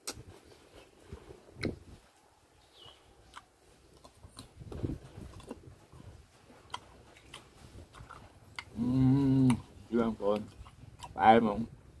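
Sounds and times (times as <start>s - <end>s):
person chewing raw fruit: 0.0s - 2.0s, 2.7s - 12.0s.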